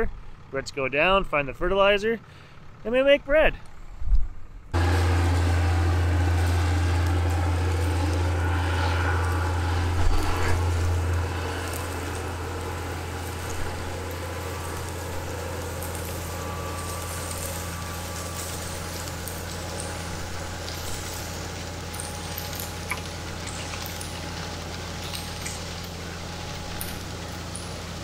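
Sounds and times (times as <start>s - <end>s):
tractor engine rumbling: 0.0s - 28.0s
steady machine drone: 3.7s - 28.0s.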